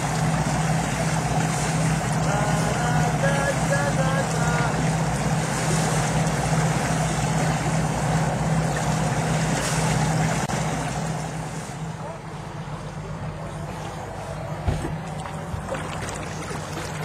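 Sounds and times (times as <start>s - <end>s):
boat engine droning: 0.0s - 17.0s
water noise: 0.0s - 17.0s
wind: 0.0s - 17.0s.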